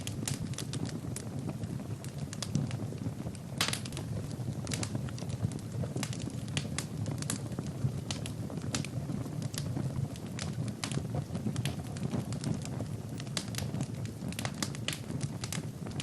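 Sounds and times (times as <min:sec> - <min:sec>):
burning logs crackling and popping: 0:00.0 - 0:16.0
low sound of flames: 0:00.0 - 0:16.0.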